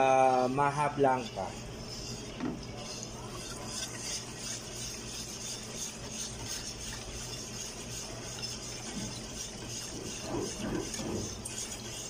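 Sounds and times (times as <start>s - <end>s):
steady low hum: 0.0s - 12.0s
whisk swishing in a pot: 0.0s - 12.0s.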